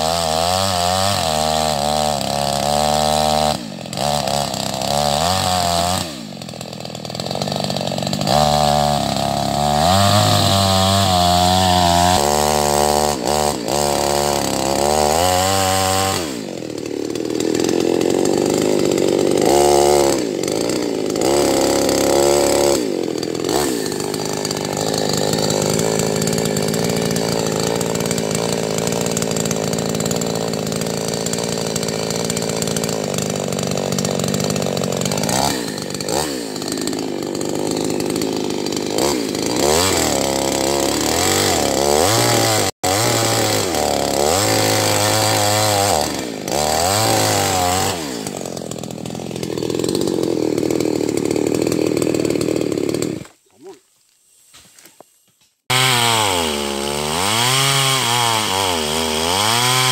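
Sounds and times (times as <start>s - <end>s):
chainsaw cutting tree: 0.0s - 53.8s, 55.6s - 59.9s.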